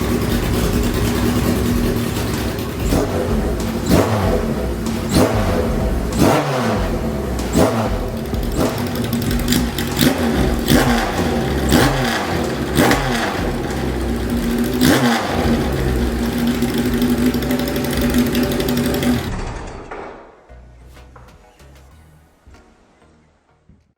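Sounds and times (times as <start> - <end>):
motorcycle engine revving and idling: 0.0 - 19.7.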